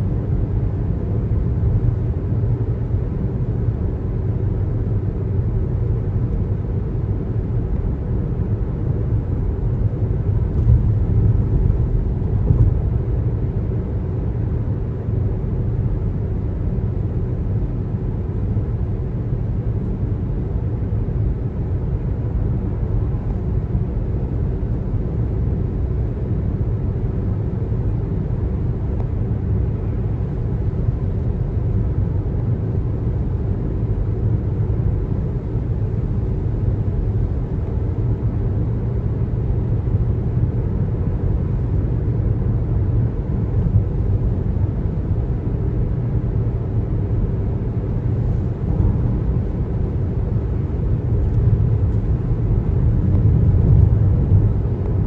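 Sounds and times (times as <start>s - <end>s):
car road rumble: 0.0s - 55.0s.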